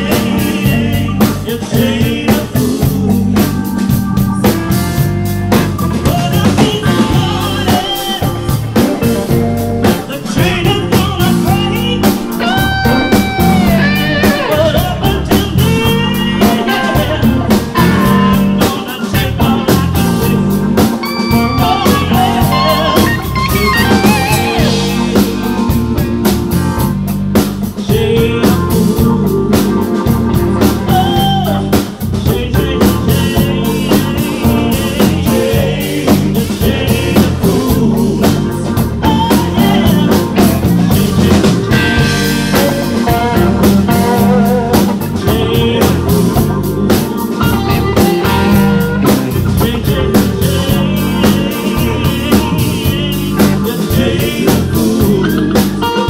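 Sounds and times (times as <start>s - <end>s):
person singing: 0.0s - 4.6s, 5.9s - 26.2s, 27.7s - 56.0s
bass guitar: 0.0s - 56.0s
drum kit: 0.0s - 56.0s
electric guitar: 0.0s - 56.0s.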